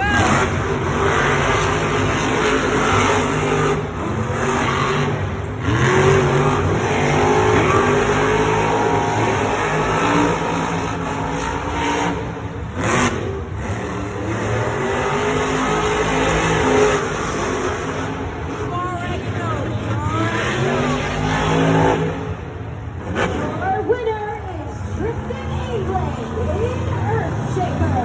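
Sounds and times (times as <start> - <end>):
monster truck engines revving: 0.0 - 28.0
stadium noise: 0.0 - 28.0.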